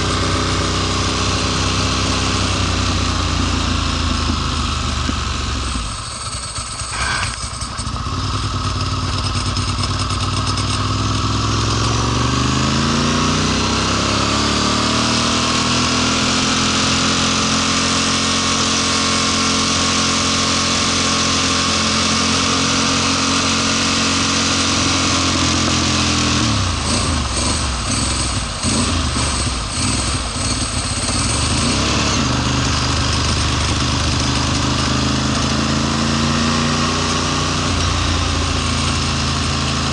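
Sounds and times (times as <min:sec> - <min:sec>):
engine sputtering: 0:00.0 - 0:13.2, 0:14.3 - 0:39.9
motorcycle engine revving: 0:00.0 - 0:39.9.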